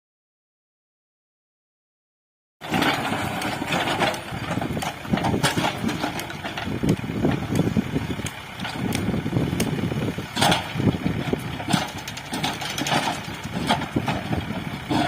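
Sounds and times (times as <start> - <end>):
heavy machinery engine running: 2.6 - 15.0
sharp clicks and knocks: 2.8 - 15.0.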